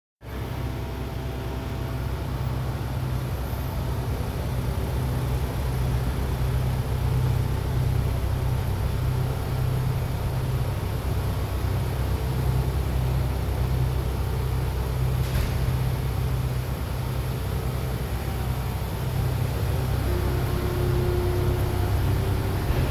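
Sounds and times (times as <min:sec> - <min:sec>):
vehicle engine rumble: 0:00.2 - 0:22.9.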